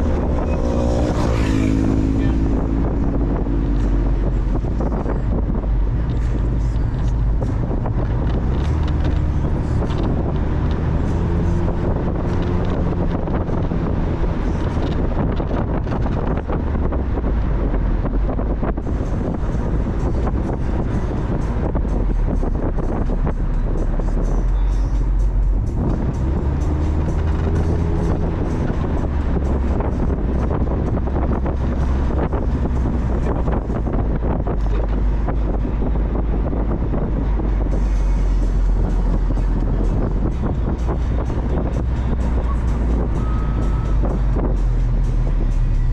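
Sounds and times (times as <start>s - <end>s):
wind buffeting microphone: 0.0s - 24.2s, 25.5s - 45.9s
car engine running while driving: 0.0s - 45.9s
road noise: 0.0s - 45.9s.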